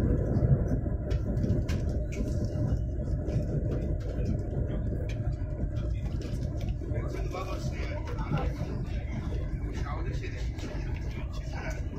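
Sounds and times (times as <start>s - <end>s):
train cabin rumble: 0.0s - 11.9s.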